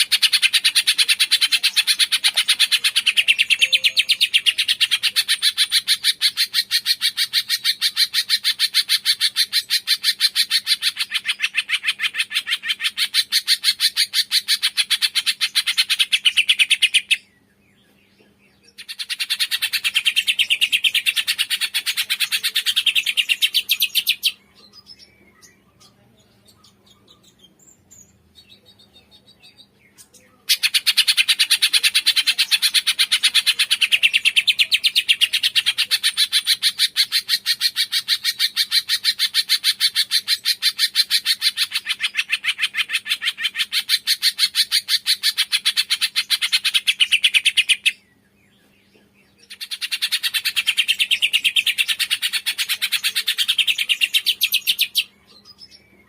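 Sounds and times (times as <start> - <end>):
songbird rapid high calls: 0.0 - 17.2, 18.8 - 24.4, 30.5 - 48.0, 49.4 - 55.1
faint bird chirps: 0.0 - 56.0.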